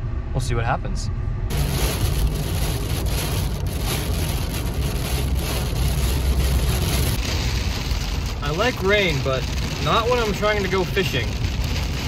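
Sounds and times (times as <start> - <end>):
car low rumble: 0.0 - 12.0
rain hitting windshield: 1.5 - 12.0.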